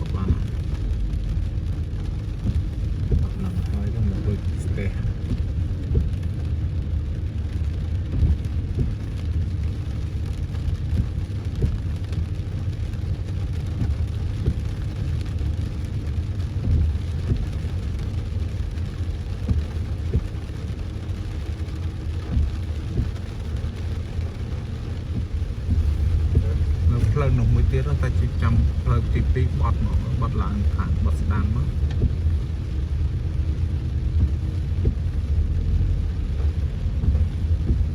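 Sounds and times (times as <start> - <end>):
engine and road noise: 0.0 - 37.9
rain pattering: 0.0 - 37.9.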